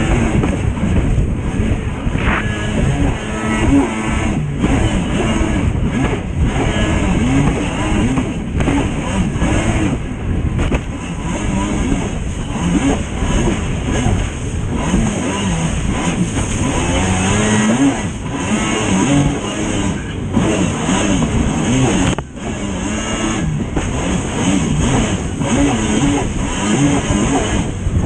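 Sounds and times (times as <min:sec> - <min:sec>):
rush of wind and spray: 0:00.0 - 0:28.0
watercraft engine running hard: 0:00.0 - 0:28.0.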